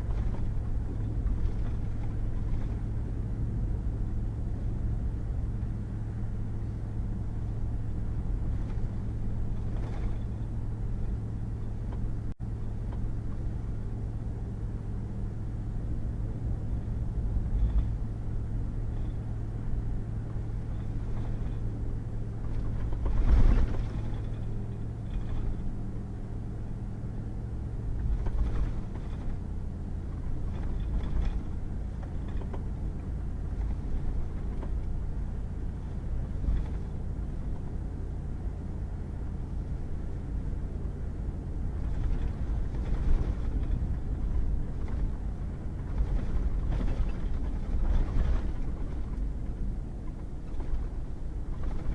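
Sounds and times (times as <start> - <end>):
truck engine drone: 0.0 - 51.9
tyre and road noise: 0.0 - 51.9.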